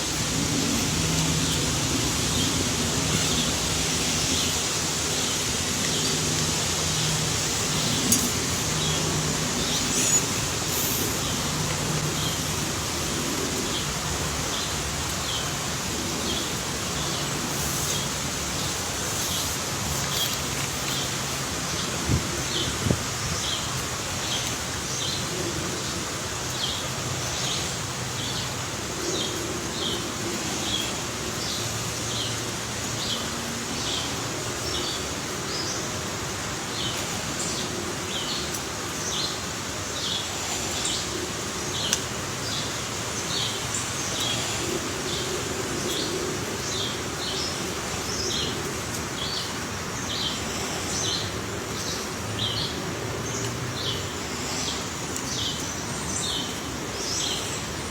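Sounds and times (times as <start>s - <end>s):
steady outdoor hiss: 0.0s - 57.9s.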